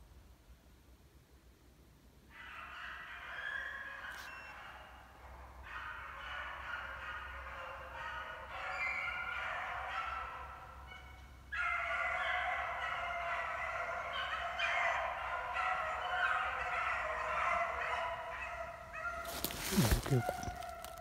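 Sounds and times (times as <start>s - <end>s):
pack of dogs baying: 2.4s - 21.0s.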